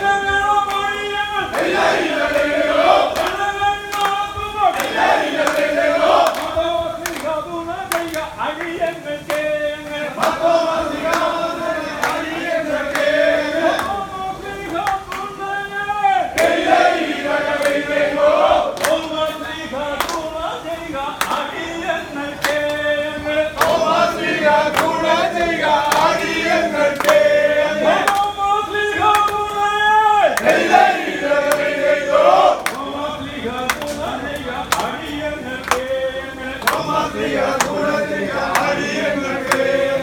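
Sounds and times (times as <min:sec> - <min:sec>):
men singing in chorus: 0:00.0 - 0:40.0.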